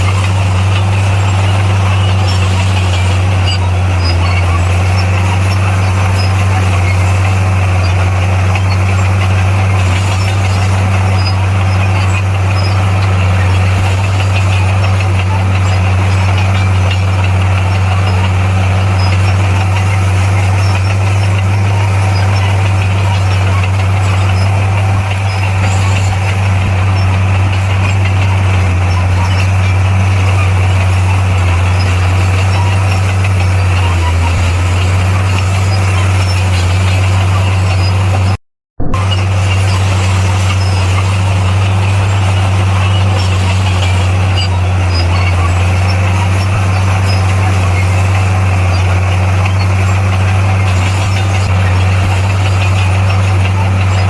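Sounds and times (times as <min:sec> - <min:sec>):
diesel engine running steadily: 0:00.0 - 0:54.0.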